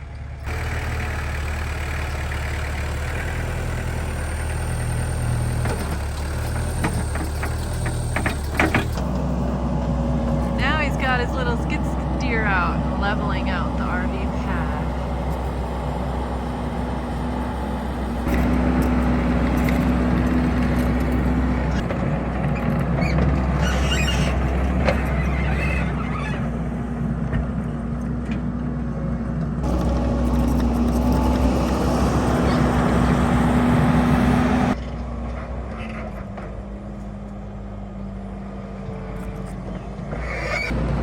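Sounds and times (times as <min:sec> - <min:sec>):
skid steer engine running: 0:00.0 - 0:41.0.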